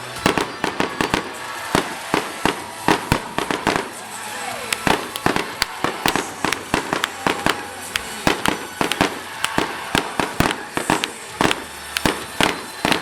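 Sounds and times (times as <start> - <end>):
fireworks bangs and pops: 0.0 - 13.0
fireworks crackle: 0.0 - 13.0.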